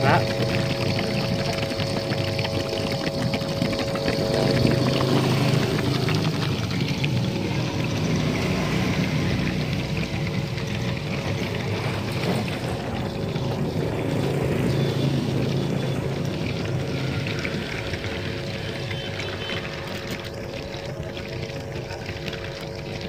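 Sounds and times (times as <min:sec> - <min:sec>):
air bubbling through liquid: 0:00.0 - 0:23.0
air pump humming: 0:00.0 - 0:23.0.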